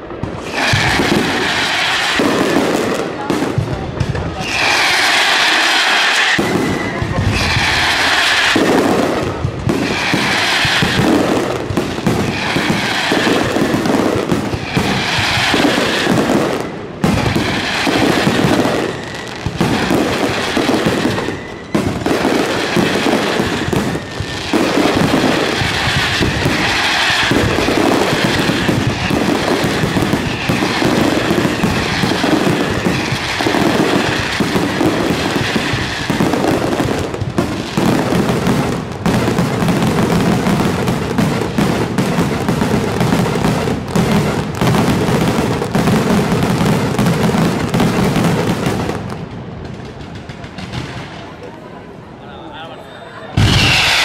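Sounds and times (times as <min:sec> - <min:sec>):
firework shells bursting: 0:00.0 - 0:51.4, 0:53.4 - 0:54.0.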